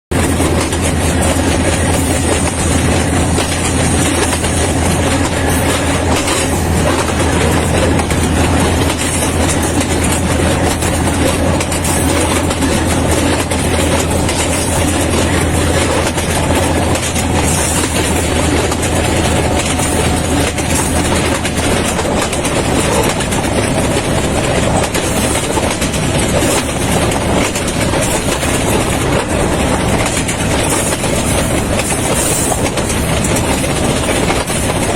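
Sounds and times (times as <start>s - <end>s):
train wheel and rail noise: 0.1s - 34.9s.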